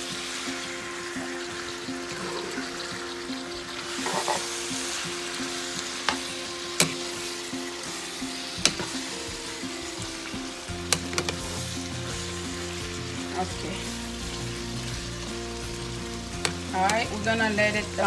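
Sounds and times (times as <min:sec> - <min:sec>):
food sizzling in a skillet: 0:00.0 - 0:18.0.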